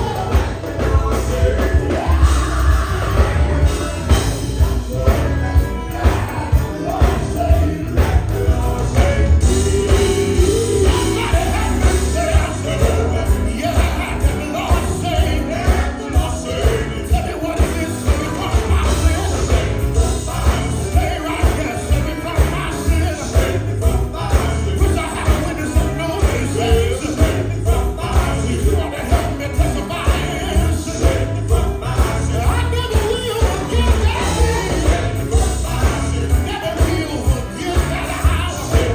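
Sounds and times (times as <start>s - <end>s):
gospel band music: 0.0s - 38.9s.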